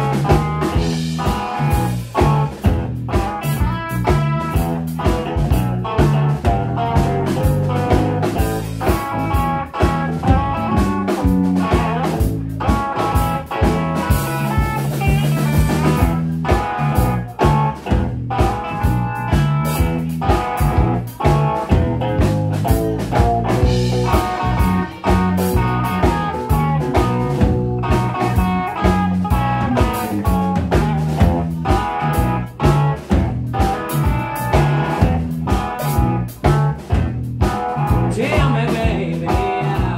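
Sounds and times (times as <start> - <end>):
bass guitar: 0.0 - 39.9
drum kit steady beat: 0.0 - 39.9
electric guitar: 0.0 - 39.9.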